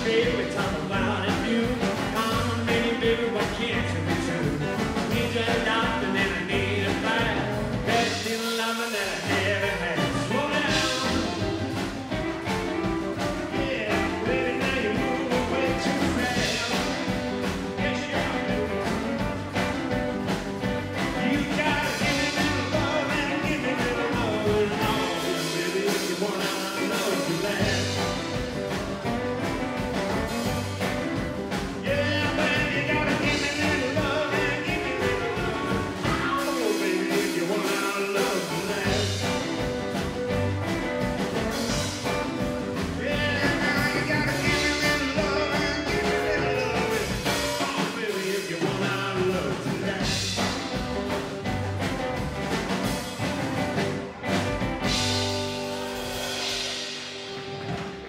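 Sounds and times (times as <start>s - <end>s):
drums: 0.0s - 58.0s
rockabilly band playing live: 0.0s - 58.0s.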